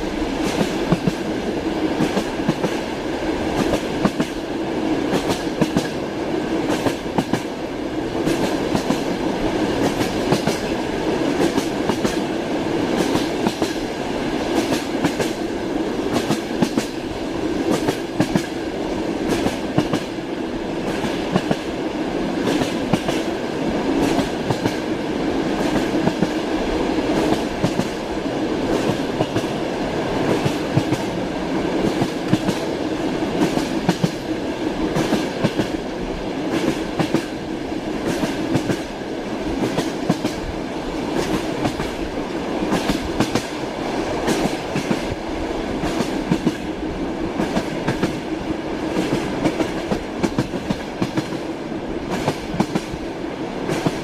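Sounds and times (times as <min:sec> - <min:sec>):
train wheels clattering over rails: 0:00.0 - 0:45.2, 0:45.8 - 0:54.0.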